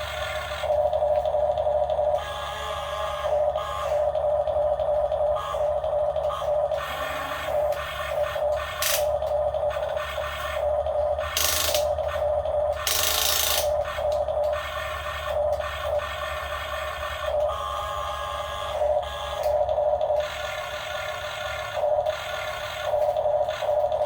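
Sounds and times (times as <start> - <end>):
model excavator motor whine: 0.0 - 24.0.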